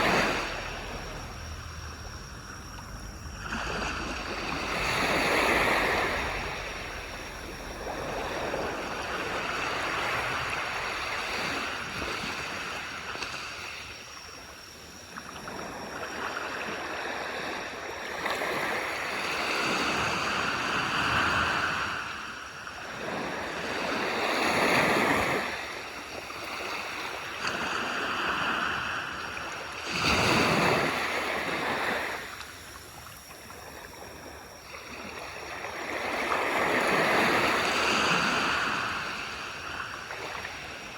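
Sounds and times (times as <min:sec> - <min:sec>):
small waves breaking on beach: 0:00.0 - 0:40.9.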